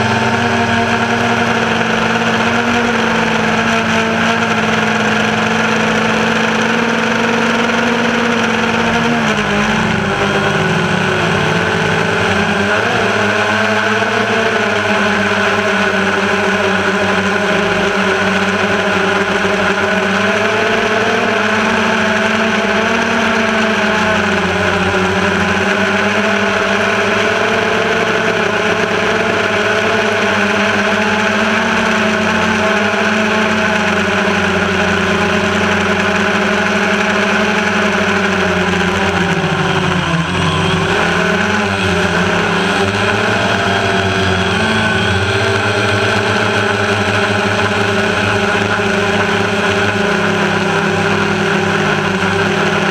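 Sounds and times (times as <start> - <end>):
drone propellers whining: 0.0 - 52.9.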